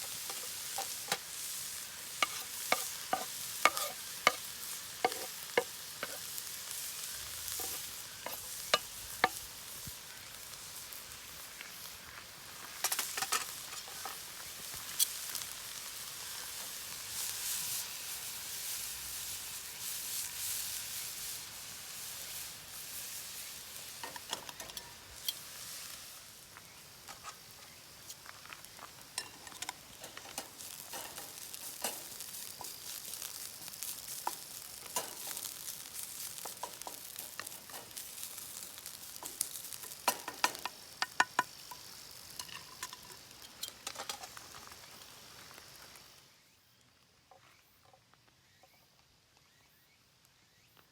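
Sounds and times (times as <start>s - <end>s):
food sizzling in frying pan: 0.0s - 46.4s.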